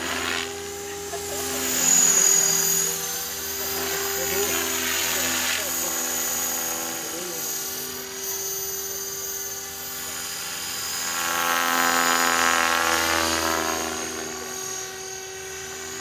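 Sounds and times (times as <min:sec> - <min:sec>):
high motor whine: 0:00.0 - 0:16.0
rotor blades buzzing: 0:00.0 - 0:16.0.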